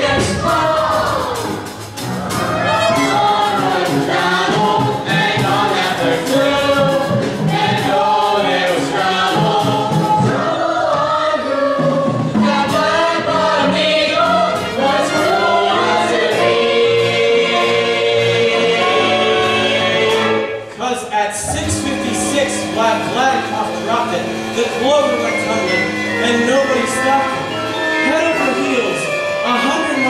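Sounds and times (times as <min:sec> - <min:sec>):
instrumental accompaniment with beat: 0:00.0 - 0:20.8, 0:21.4 - 0:30.0
chorus singing: 0:00.0 - 0:30.0.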